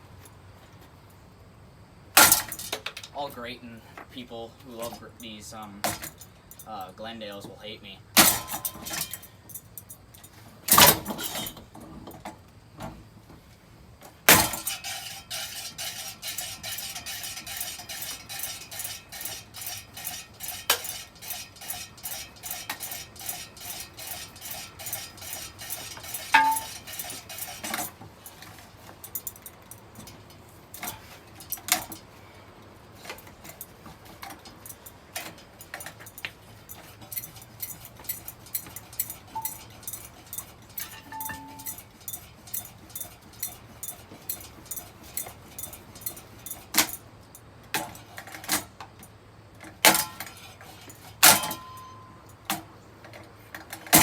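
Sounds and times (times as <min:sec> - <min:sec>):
metallic clinks and rattles: 0:04.8 - 0:07.0, 0:08.2 - 0:11.7, 0:14.3 - 0:49.2, 0:49.8 - 0:54.0.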